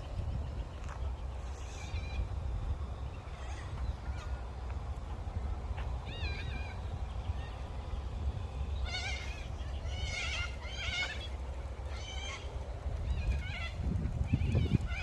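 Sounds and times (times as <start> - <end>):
birds bleating calls: 0.0 - 15.0
steady low rumble: 0.0 - 15.0.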